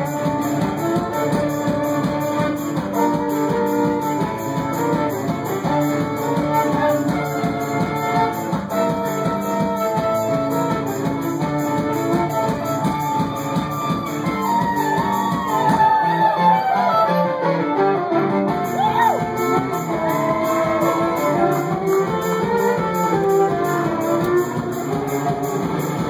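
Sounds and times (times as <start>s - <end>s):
guitar strummed quickly: 0.0s - 26.0s
held melody notes: 0.0s - 26.0s.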